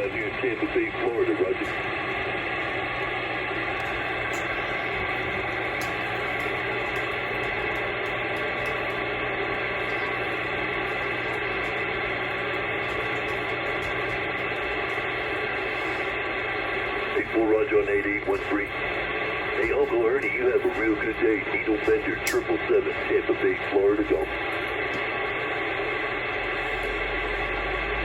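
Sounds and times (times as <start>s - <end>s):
faint steady tones: 0.0s - 28.0s
radio static hiss: 0.0s - 28.0s.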